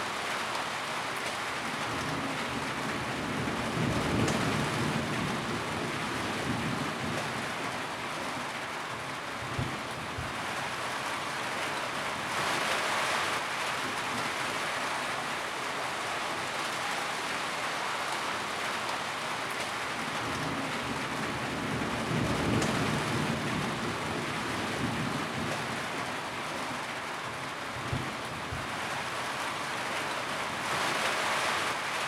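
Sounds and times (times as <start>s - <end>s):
rain drumming on a tin roof: 0.0s - 32.0s.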